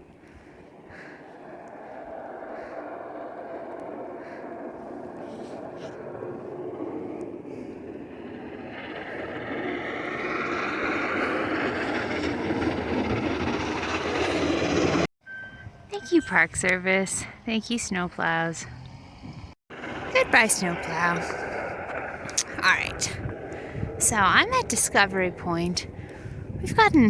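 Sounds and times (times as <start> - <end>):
vehicle approaching on snowy road: 0.0 - 15.1, 16.9 - 26.6
truck engine rumble: 0.0 - 26.6.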